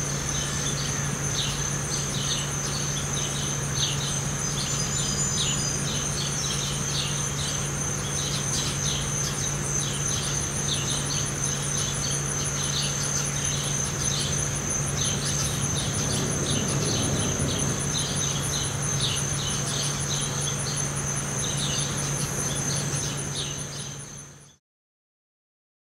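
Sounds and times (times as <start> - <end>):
low steady hum: 0.0 - 24.2
crickets chirping: 0.0 - 24.6
bird chirps: 0.3 - 24.6.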